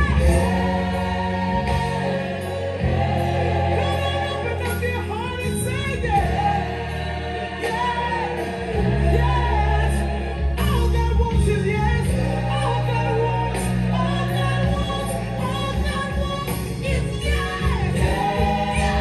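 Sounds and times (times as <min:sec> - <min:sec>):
people singing vocal runs: 0:00.0 - 0:05.1, 0:05.9 - 0:19.0
recorded gospel song: 0:00.0 - 0:19.0.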